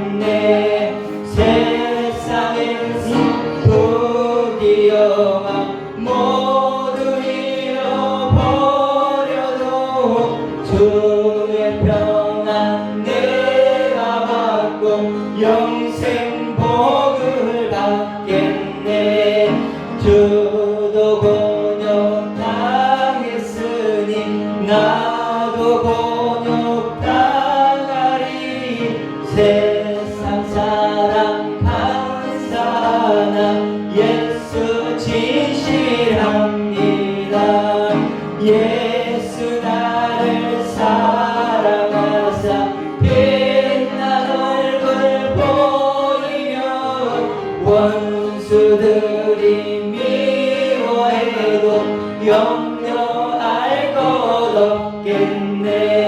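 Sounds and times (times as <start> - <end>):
instrumental accompaniment: 0.0 - 56.0
voices singing gospel song: 0.0 - 56.0.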